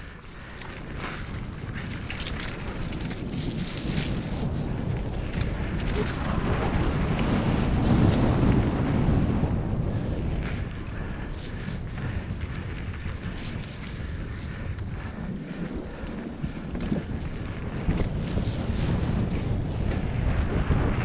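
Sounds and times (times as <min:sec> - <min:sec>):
bike rattling clicks: 0:00.0 - 0:09.2, 0:10.2 - 0:21.0
tyres on wet dirt trail: 0:00.0 - 0:21.0
wind rushing over microphone: 0:00.0 - 0:21.0.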